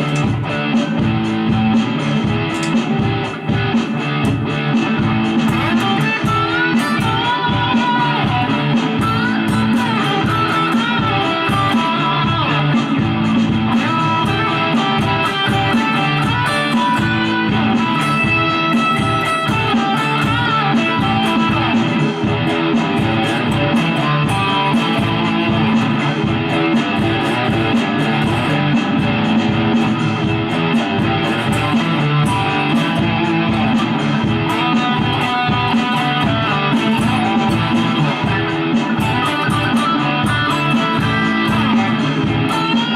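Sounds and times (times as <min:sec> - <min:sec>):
backing track with drum beat: 0:00.0 - 0:42.9
distorted electric guitar lead: 0:00.0 - 0:42.9.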